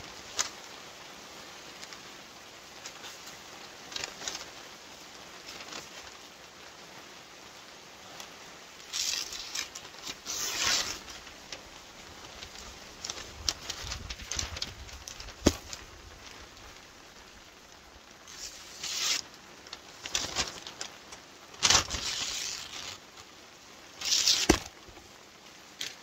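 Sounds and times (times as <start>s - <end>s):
rustling noise: 0.0s - 26.0s.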